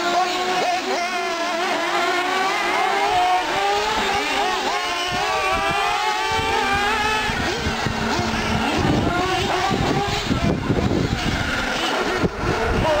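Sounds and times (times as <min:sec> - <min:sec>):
model car engines whining: 0:00.0 - 0:13.0.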